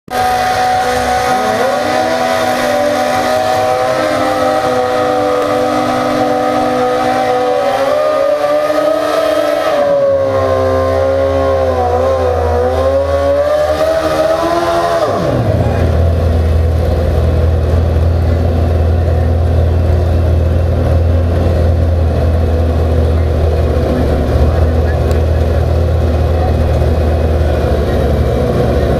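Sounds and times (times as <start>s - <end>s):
motorcycle engine at high revs: 0.1s - 28.9s.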